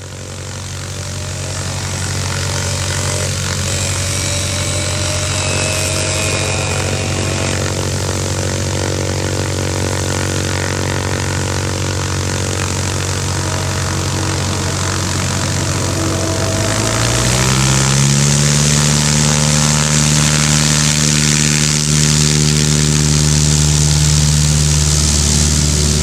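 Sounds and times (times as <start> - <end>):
airplane engine and propeller: 0.0 - 26.0.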